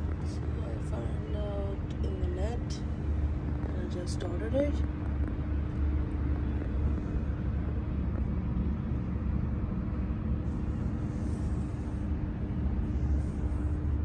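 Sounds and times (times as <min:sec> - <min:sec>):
constant hum: 0:00.0 - 0:14.0
low background rumble: 0:00.0 - 0:14.0.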